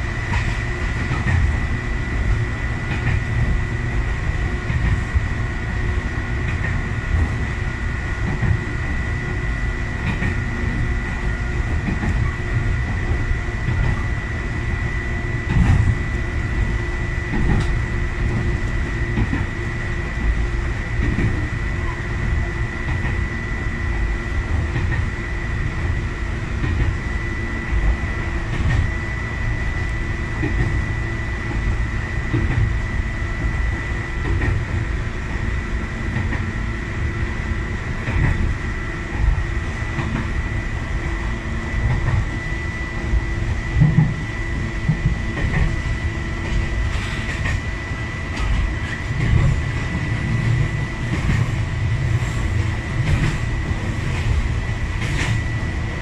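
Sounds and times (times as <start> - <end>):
train wheels and motors rumbling: 0.0 - 56.0.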